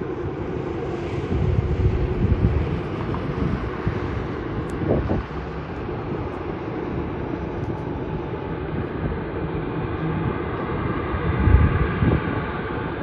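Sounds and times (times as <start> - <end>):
faint engine whine: 0.0 - 13.0
jet engines rumbling: 0.0 - 13.0.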